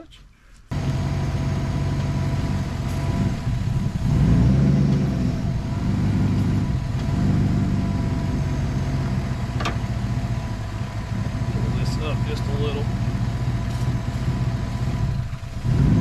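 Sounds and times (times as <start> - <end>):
car engine idling unevenly: 0.7 - 16.0.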